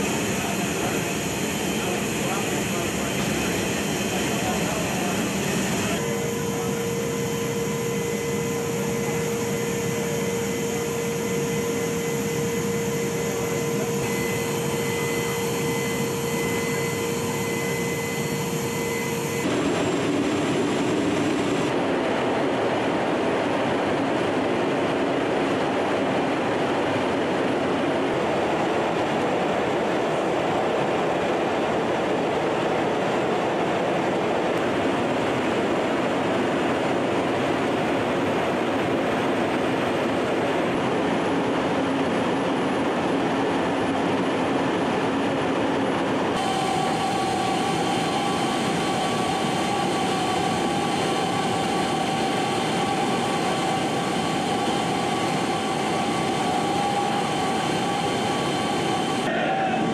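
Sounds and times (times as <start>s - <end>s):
jet engine and air noise: 0.0s - 59.9s.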